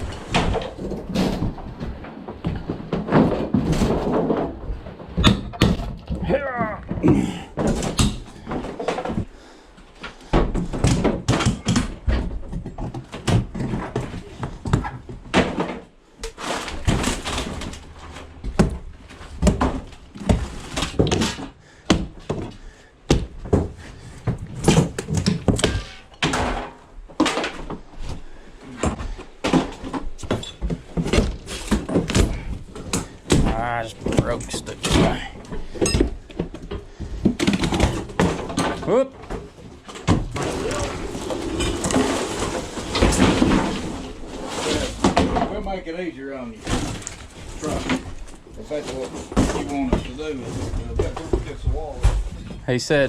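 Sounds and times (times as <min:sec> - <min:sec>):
heavy debris knocking and banging: 0:00.0 - 0:09.4, 0:10.0 - 0:53.0.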